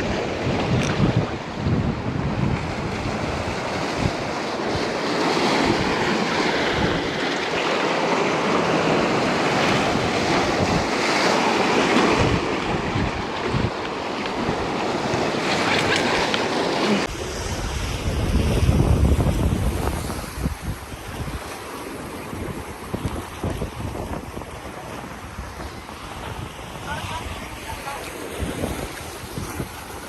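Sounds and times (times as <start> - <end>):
wind buffeting microphone: 0.0 - 7.3, 8.5 - 30.0
ocean surf washing ashore: 0.0 - 30.0.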